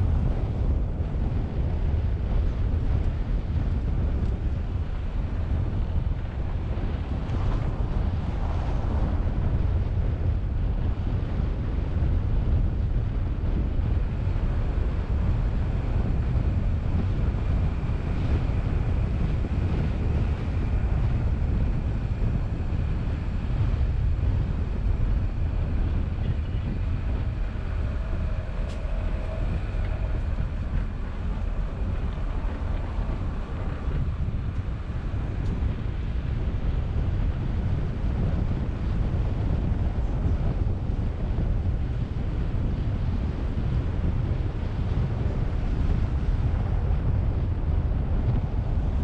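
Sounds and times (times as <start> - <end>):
car driving rumble: 0.0 - 49.0
wind buffeting microphone: 0.0 - 49.0.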